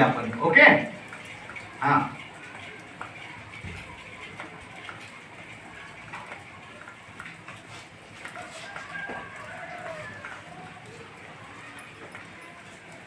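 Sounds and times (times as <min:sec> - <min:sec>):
children's voices: 0:01.2 - 0:07.6, 0:08.8 - 0:13.0.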